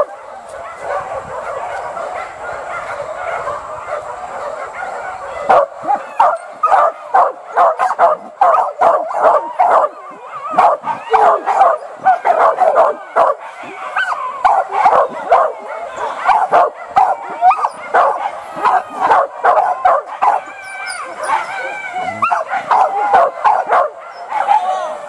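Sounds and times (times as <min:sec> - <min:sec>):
dogs barking: 0:00.0 - 0:25.0.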